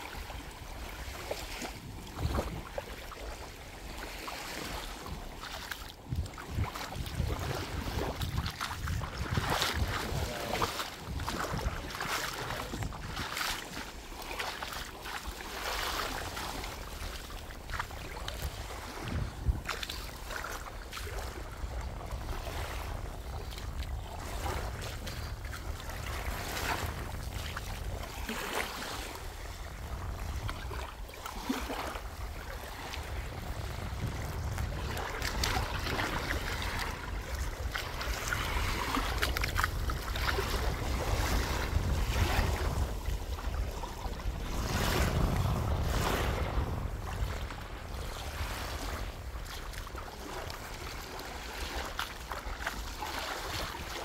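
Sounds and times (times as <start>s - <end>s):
sea waves washing on shore: 0.0s - 54.0s
wind rumbling on microphone: 0.0s - 54.0s.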